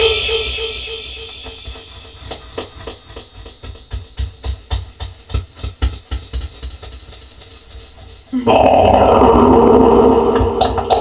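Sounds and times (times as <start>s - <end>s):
steady high-pitched tone: 0.0s - 6.4s, 7.6s - 11.0s.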